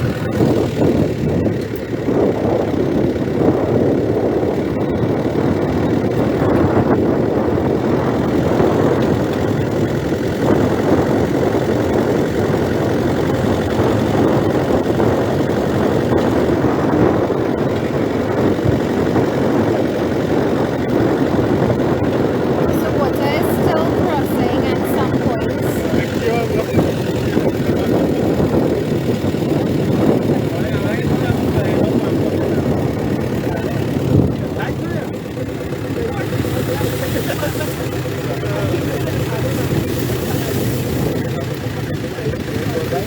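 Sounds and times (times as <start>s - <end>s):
vehicle engine and road noise: 0.0s - 43.0s.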